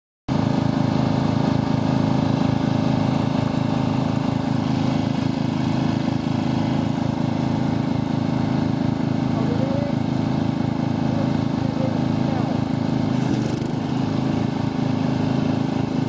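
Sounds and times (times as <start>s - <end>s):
lawn tractor engine running: 0.3s - 16.0s.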